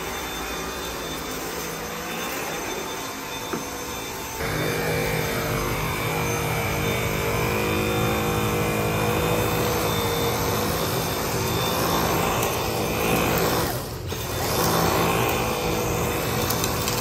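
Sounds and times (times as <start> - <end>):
vacuum cleaner on carpet: 0.0 - 17.0.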